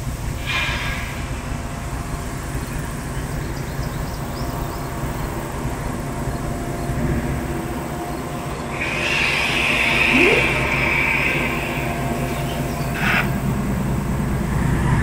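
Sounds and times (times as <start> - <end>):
locomotive engine chugging rumble: 0.0 - 15.0.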